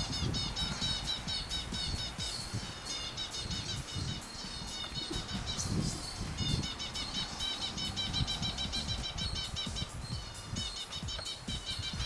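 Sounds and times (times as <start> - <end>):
bird calling high repeated notes: 0.0 - 12.0.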